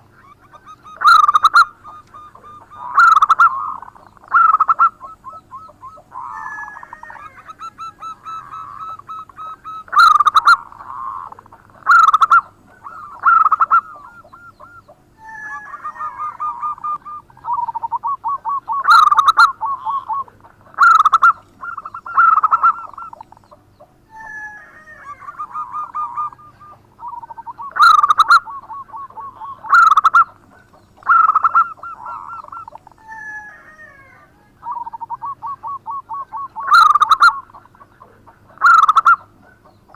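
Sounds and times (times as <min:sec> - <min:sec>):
dove cooing song: 0:00.0 - 0:39.9.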